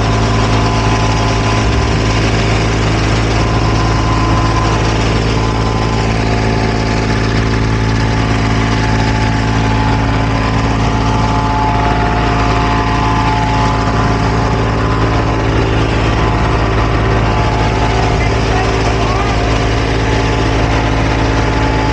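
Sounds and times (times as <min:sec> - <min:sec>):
paving machine engine humming: 0:00.0 - 0:21.9.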